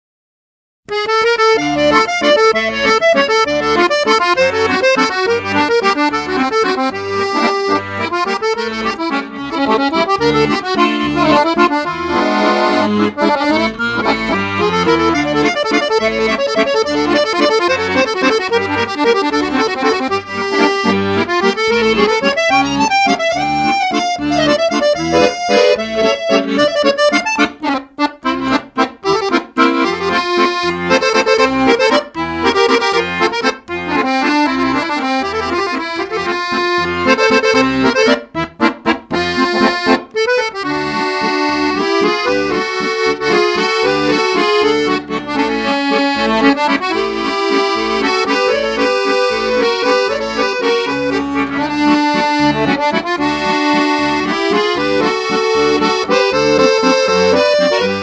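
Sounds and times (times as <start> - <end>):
lively tune over bass beat: 0.9 - 58.0.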